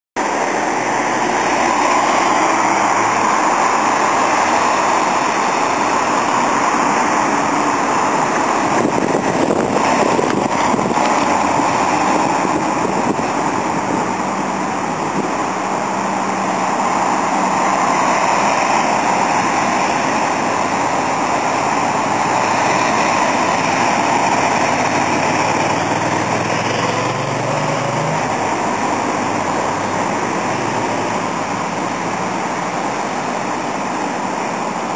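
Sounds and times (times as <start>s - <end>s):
engine speeding up: 0.2s - 34.9s
vehicles driving past: 0.2s - 34.9s.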